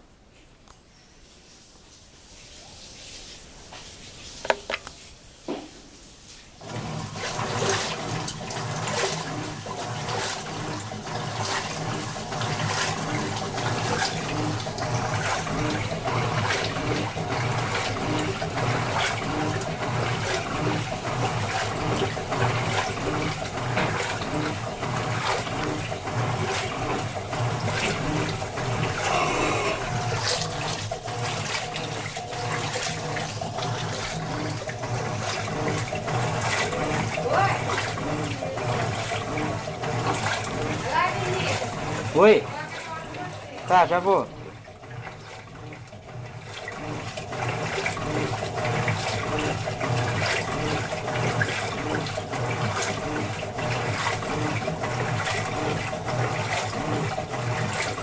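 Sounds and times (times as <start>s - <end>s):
washing machine water rushing: 2.1s - 58.0s
washing machine motor hum: 6.3s - 58.0s.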